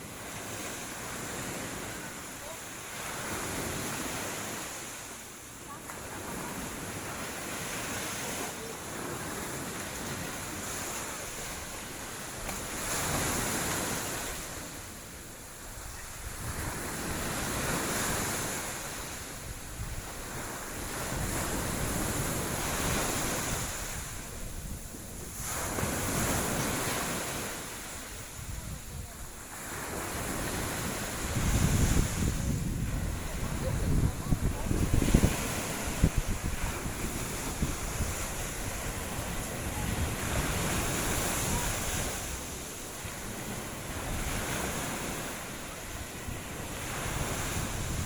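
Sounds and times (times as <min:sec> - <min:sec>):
sea waves washing onto beach: 0:00.0 - 0:48.0
wind rumbling on microphone: 0:08.9 - 0:48.0.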